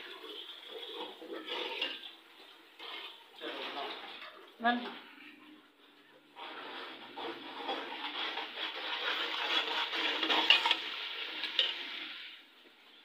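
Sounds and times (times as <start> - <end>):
frying sizzle: 0.0 - 4.8, 6.4 - 13.0
spoon stirring and scraping pot: 0.0 - 5.5, 6.2 - 12.7.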